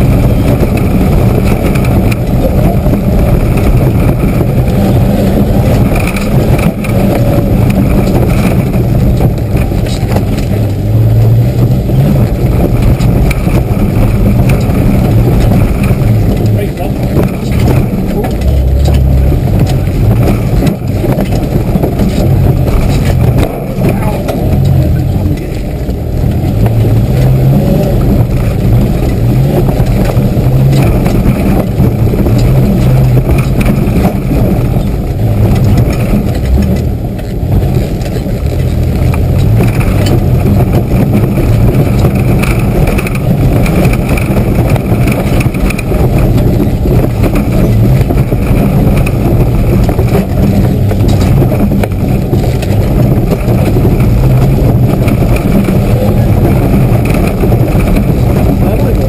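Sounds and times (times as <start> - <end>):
body and suspension rattles: 0.0 - 59.0
loud engine revving in cabin: 0.0 - 59.0.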